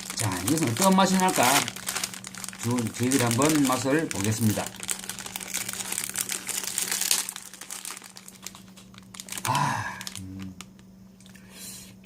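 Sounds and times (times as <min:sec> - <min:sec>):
plastic wrapper crinkling: 0:00.0 - 0:11.4.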